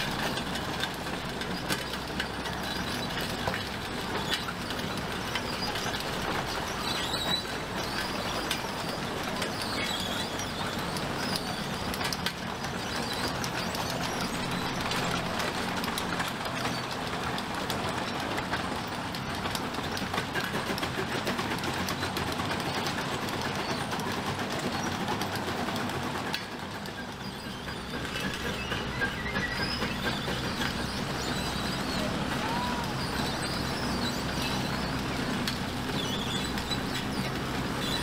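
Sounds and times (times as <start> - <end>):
steam hauler tracks clattering: 0.0 - 38.0.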